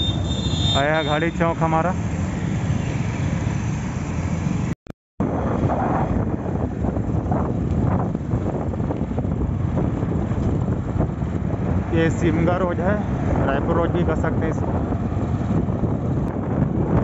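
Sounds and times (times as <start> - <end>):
road rumble: 0.0 - 17.0
wind rushing over microphone: 1.8 - 17.0.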